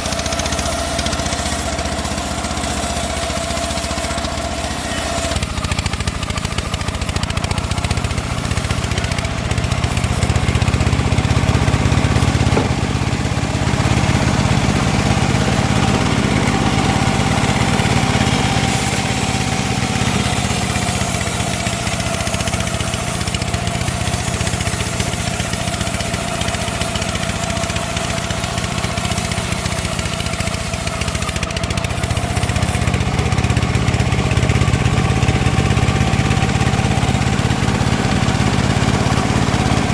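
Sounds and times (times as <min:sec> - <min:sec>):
bandsaw mill sawing wood: 0:00.0 - 0:39.9.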